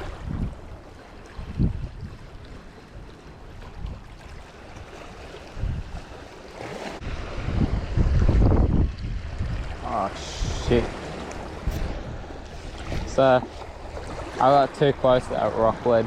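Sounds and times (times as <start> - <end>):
wind buffeting microphone: 0.0 - 6.2, 7.0 - 16.0.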